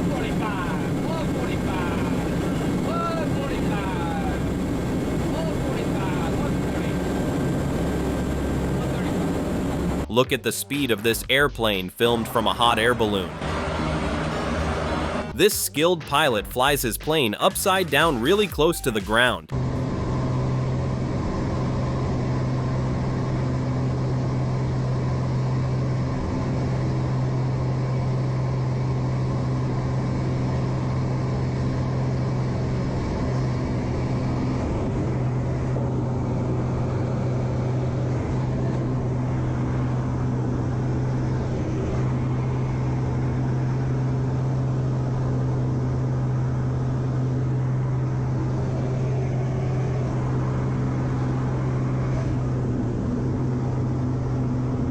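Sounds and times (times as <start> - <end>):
aircraft engine droning: 0.0 - 11.1, 12.0 - 16.4, 19.5 - 54.9.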